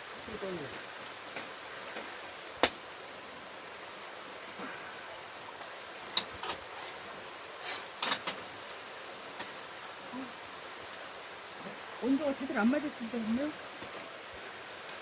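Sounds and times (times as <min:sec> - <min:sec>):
high insect drone: 0:00.0 - 0:15.0
stream water running: 0:00.0 - 0:15.0.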